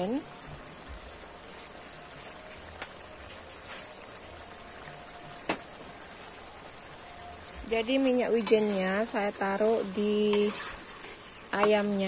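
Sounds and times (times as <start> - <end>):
sauce simmering in a wok: 0.0 - 12.0.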